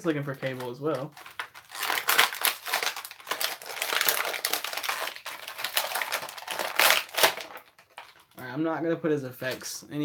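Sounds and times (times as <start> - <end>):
packaging crinkling: 0.4 - 8.4.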